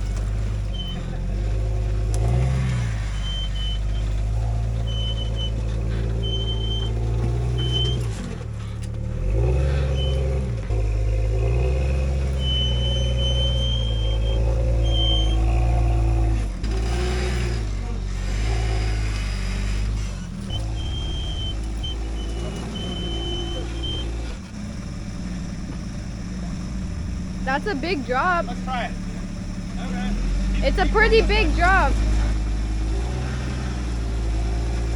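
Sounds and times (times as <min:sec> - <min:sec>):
off-road engine throttle blips: 0:00.0 - 0:34.9.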